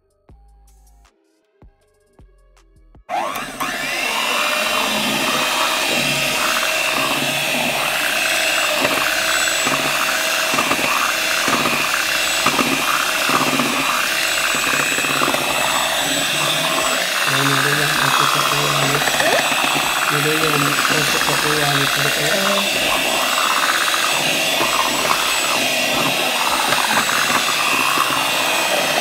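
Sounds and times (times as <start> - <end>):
electric hand mixer running: 3.1 - 29.0.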